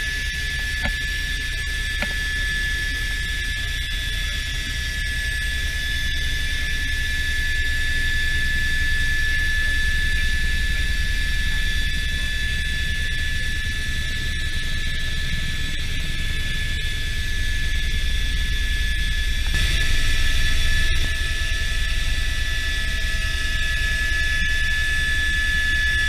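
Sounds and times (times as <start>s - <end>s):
helicopter engine whine: 0.0s - 26.0s.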